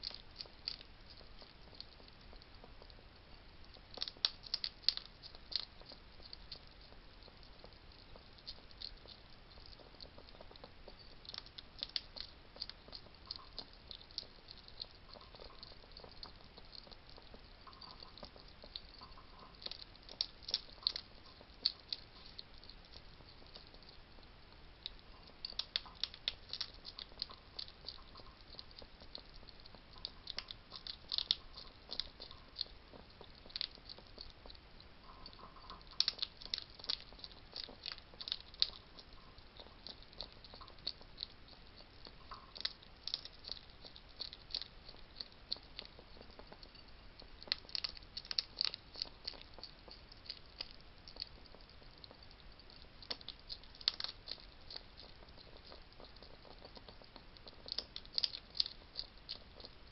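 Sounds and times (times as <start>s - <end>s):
hedgehogs crunching food: 0.0s - 59.9s.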